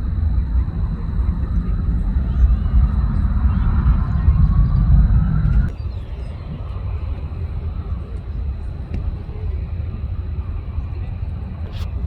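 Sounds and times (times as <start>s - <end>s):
jet engine rumble and whine: 0.0s - 12.0s.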